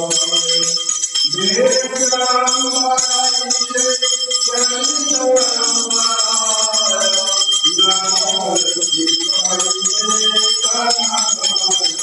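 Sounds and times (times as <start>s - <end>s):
bells ringing rapidly: 0.0s - 12.0s
devotional song: 0.0s - 12.0s.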